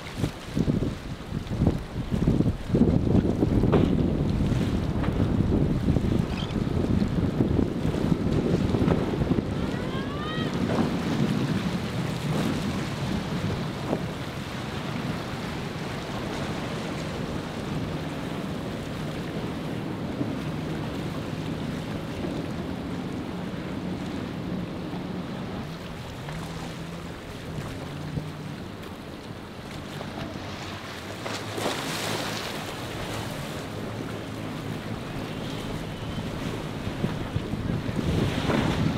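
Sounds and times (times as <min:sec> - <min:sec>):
outboard motor running: 0:00.0 - 0:38.9
waves splashing: 0:00.0 - 0:38.9
wind buffeting microphone: 0:00.0 - 0:38.9.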